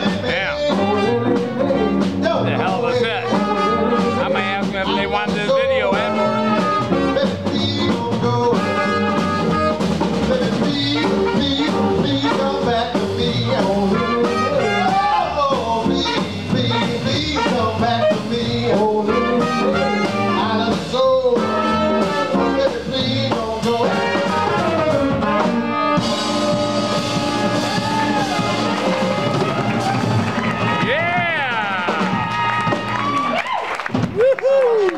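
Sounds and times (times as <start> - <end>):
saxophone: 0.0 - 33.4
live band dance music: 0.0 - 34.2
drum kit: 0.0 - 34.9.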